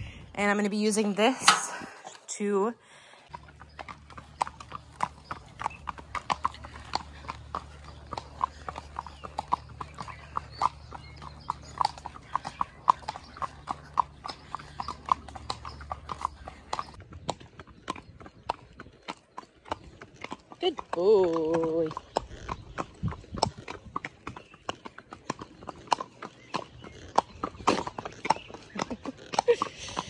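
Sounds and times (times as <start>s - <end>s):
horse hooves on paved road: 0.0s - 30.0s.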